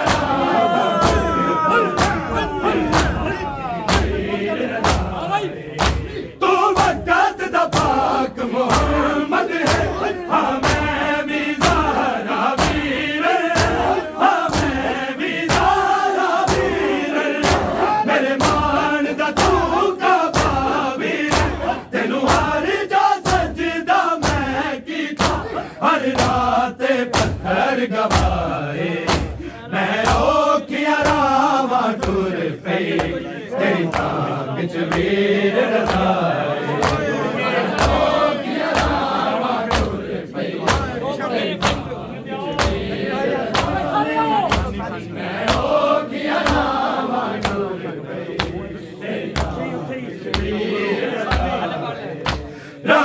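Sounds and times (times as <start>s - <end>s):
men chanting together: 0.0s - 53.0s
rhythmic hand slaps on chest: 0.0s - 53.0s.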